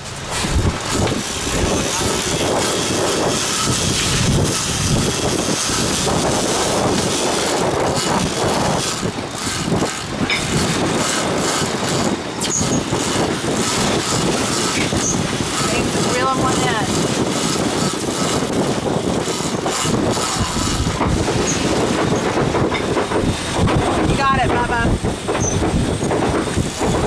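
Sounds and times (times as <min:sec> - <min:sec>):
sea water rushing: 0:00.0 - 0:27.0
wind buffeting microphone: 0:00.0 - 0:27.0.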